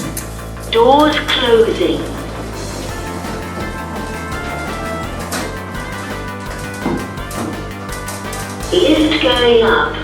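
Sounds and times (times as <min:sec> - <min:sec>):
retro video game music: 0:00.2 - 0:10.0.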